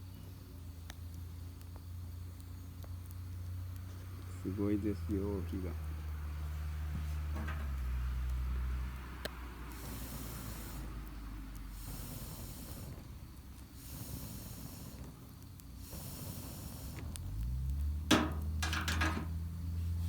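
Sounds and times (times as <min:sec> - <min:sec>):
campfire hissing and crackling: 0:00.0 - 0:20.0.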